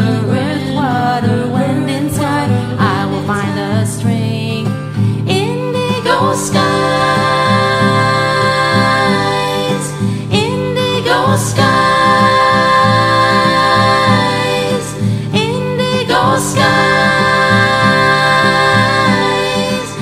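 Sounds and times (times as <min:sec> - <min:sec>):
guitar: 0:00.0 - 0:20.0
layered female vocals: 0:00.0 - 0:20.0.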